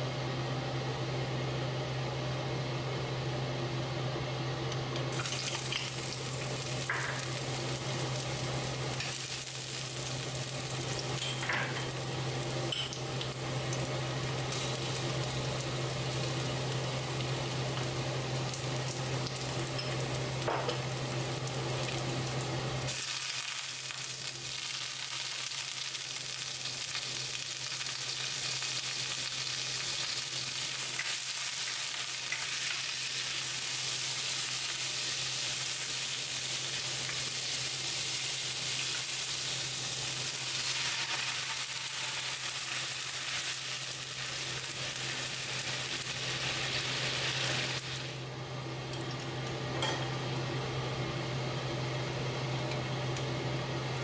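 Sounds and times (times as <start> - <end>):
food sizzling in hot oil: 5.1 - 50.0.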